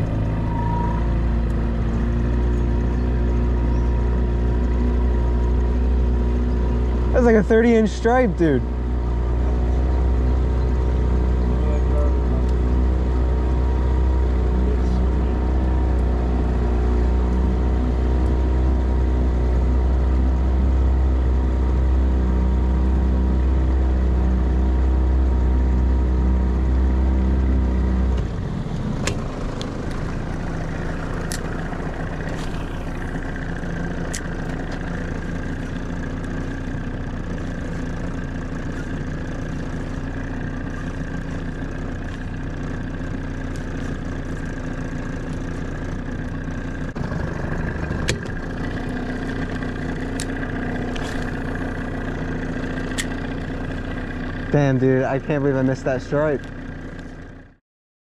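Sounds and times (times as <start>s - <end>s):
outboard motor running: 0.0s - 57.6s.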